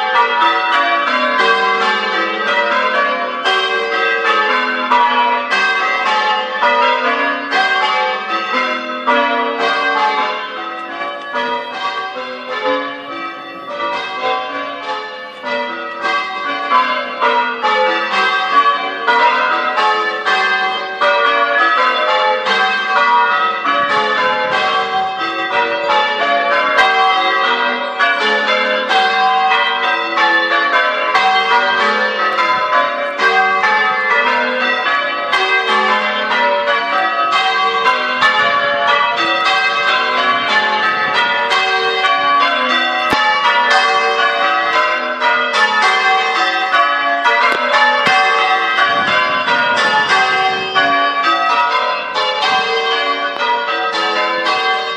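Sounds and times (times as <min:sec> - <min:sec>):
church bells change ringing: 0:00.0 - 0:54.9.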